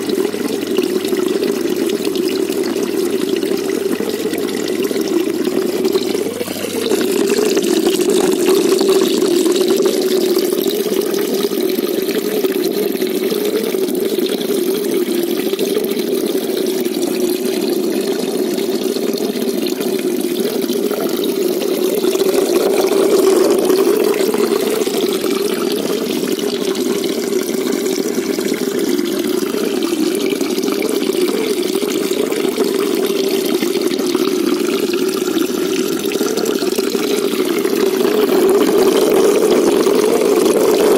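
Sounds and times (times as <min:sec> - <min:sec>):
water rushing and trickling: 0:00.0 - 0:40.9.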